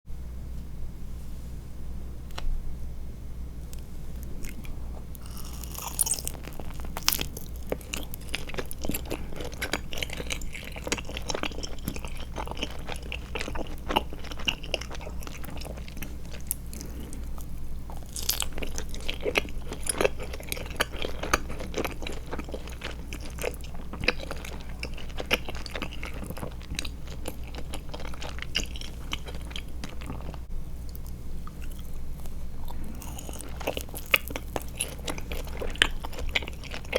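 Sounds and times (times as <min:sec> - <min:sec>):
person chewing gummy candy: 0:04.2 - 0:36.9.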